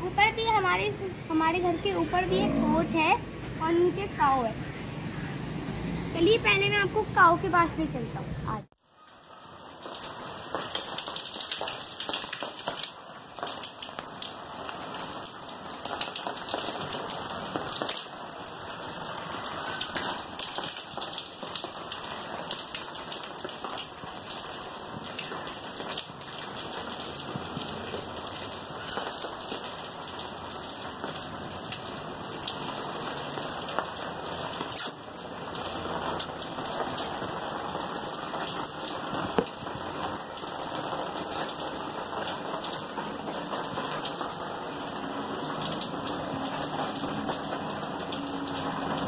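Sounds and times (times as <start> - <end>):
rain on hard surfaces: 0.0 - 49.0.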